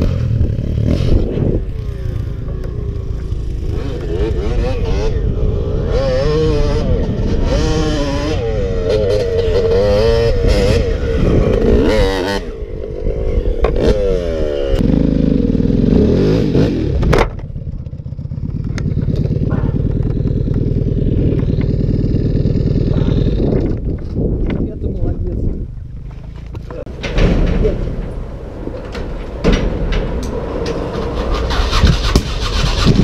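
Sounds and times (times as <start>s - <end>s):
off-road motorcycle engine revving: 0.0s - 33.0s.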